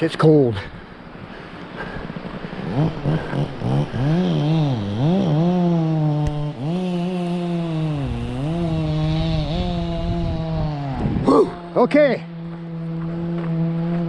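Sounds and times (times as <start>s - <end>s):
engine revving: 1.8s - 14.0s.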